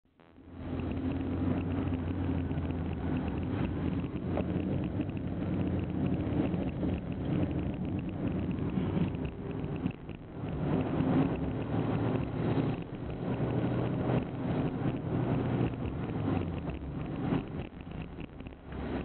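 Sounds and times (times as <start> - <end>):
vehicle engine hum: 0.1 - 19.0
wind buffeting microphone: 0.6 - 19.0.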